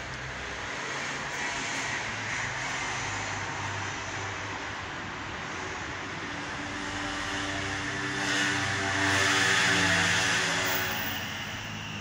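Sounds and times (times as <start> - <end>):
passing motor vehicle: 0.0 - 12.0
steady low hum: 2.0 - 12.0.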